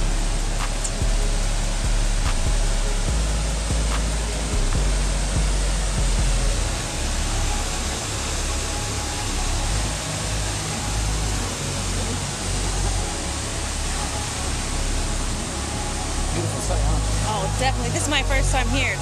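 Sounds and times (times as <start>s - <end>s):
low rumble: 0.0s - 19.0s
waterfall rushing over rocks: 0.0s - 19.0s.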